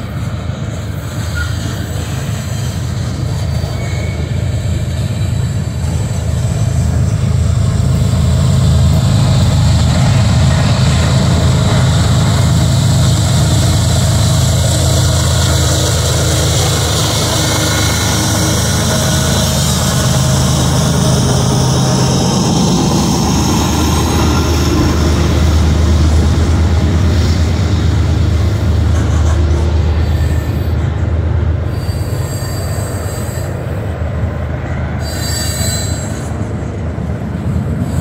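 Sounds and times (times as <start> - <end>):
diesel locomotive engine: 0.0 - 38.0
freight train rolling past: 0.0 - 38.0.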